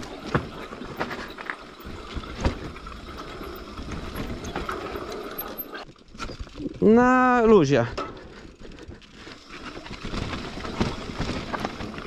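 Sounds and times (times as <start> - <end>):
bike knocks and rattles: 0.0 - 6.6, 7.8 - 8.6, 9.6 - 12.0
bike tyres on dirt: 0.0 - 12.0.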